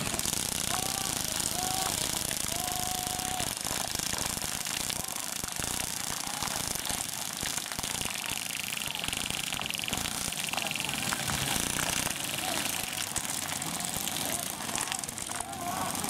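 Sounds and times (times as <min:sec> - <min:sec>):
airsoft guns firing full auto: 0:00.0 - 0:16.0.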